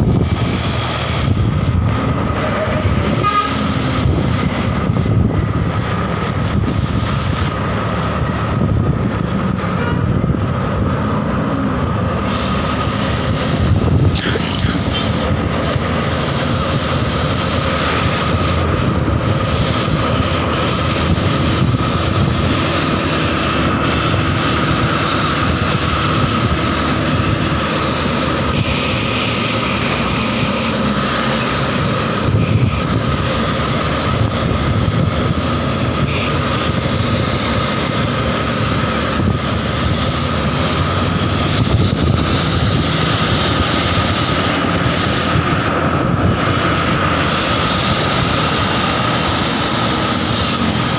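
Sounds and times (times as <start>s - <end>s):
engine drone: 0.0s - 50.9s
traffic road noise: 0.0s - 50.9s
wind rush: 0.0s - 50.9s.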